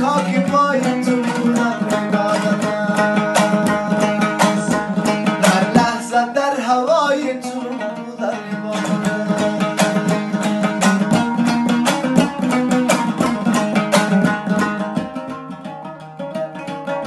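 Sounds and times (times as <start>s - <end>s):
long-necked lute strummed fast: 0.0s - 17.0s.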